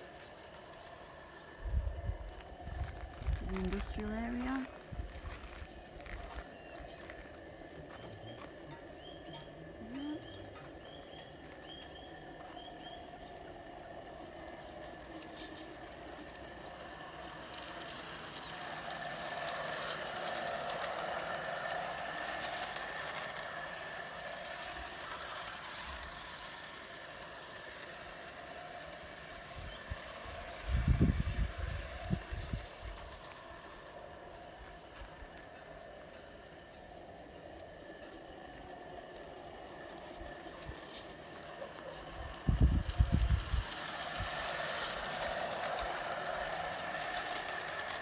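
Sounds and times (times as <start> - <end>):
model locomotive rattling: 0.0 - 48.0.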